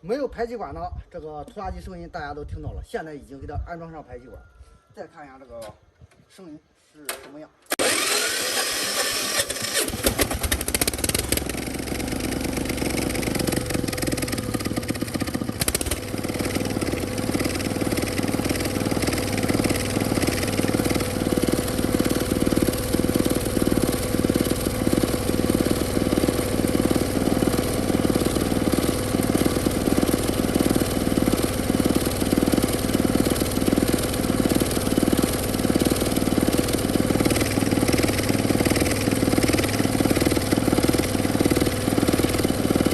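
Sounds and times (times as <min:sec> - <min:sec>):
tractor diesel engine running: 0:07.8 - 0:42.9.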